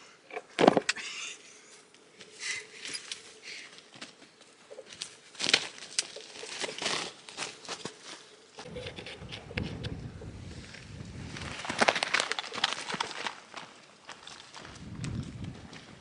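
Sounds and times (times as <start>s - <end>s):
rustling and crinkling: 2.2s - 16.0s.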